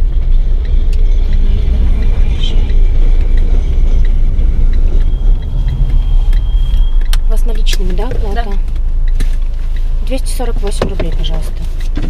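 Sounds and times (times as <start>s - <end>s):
car interior driving rumble: 0.0s - 12.0s.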